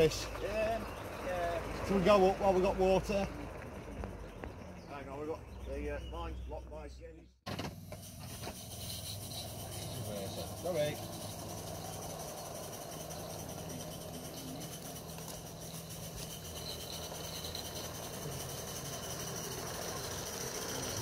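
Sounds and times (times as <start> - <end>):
model steam locomotives running: 0.0 - 4.9, 7.9 - 21.0.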